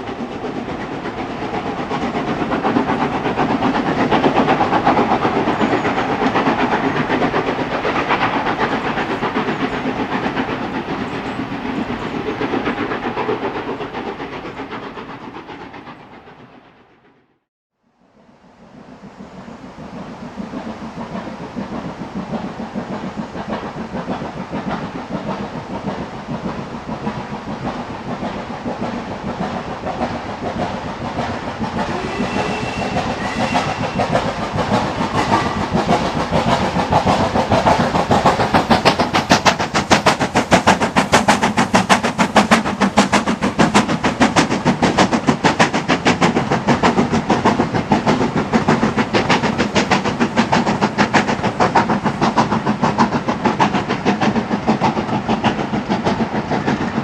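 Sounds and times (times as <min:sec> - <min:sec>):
steam locomotive exhaust beats: 0:00.0 - 0:17.4, 0:18.0 - 0:57.0.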